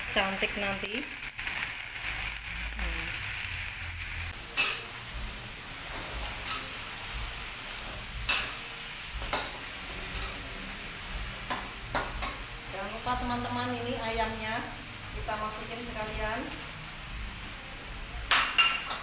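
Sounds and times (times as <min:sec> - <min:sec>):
vegetables sizzling in wok: 0:00.0 - 0:19.0.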